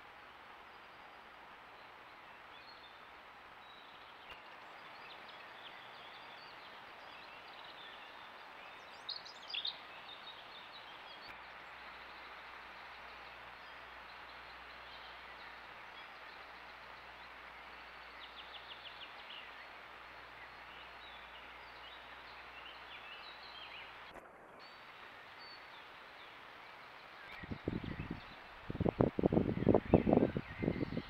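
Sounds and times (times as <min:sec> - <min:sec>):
small bird calls: 0:00.0 - 0:31.0
steady microphone hiss: 0:00.0 - 0:31.0.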